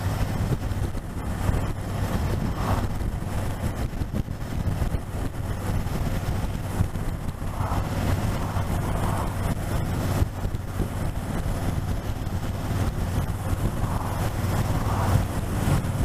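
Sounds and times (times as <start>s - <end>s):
motorcycle engine running: 0.0s - 16.0s
wind rushing: 0.0s - 16.0s.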